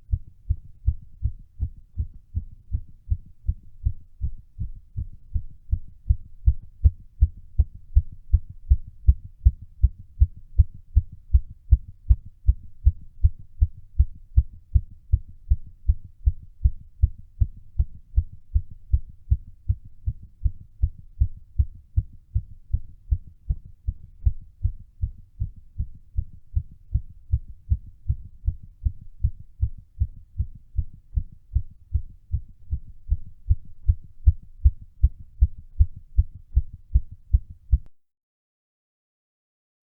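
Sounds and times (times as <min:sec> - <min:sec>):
heart beating fast: 0:00.0 - 0:37.9.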